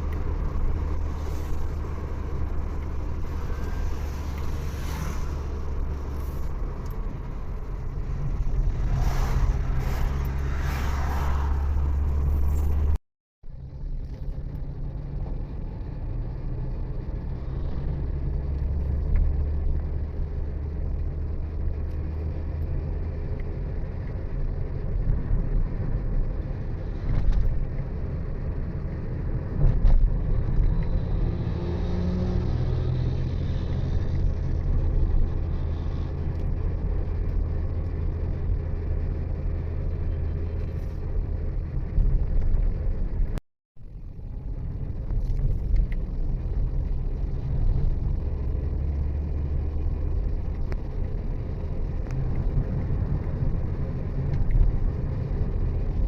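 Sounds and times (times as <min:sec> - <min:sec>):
vehicle engine hum and road noise: 0:00.0 - 0:56.0.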